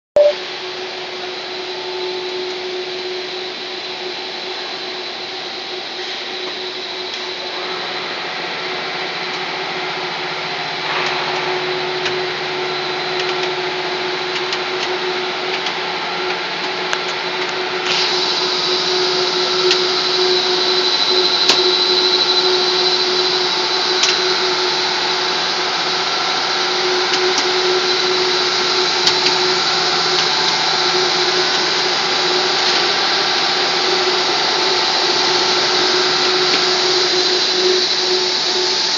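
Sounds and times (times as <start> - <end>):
high whine: 0.0 - 38.9
machine drone: 0.0 - 38.9.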